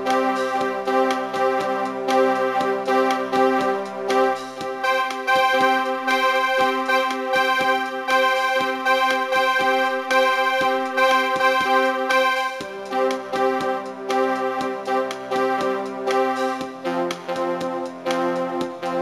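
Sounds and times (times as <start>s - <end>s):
background music with chords and beat: 0.0s - 19.0s.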